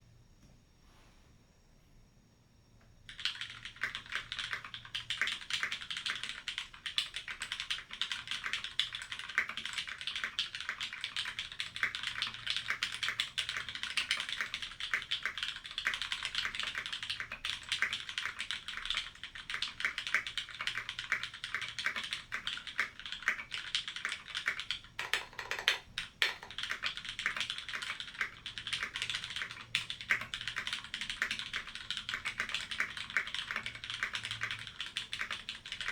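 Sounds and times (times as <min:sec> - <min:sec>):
fast mechanical keyboard typing: 0:03.1 - 0:35.9.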